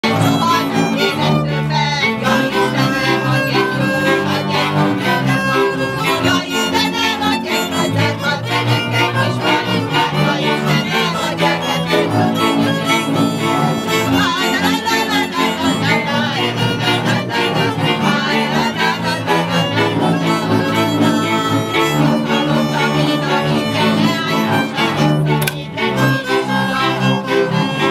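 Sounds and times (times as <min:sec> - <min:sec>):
bowed double bass: 0:00.0 - 0:27.9
violins: 0:00.0 - 0:27.9.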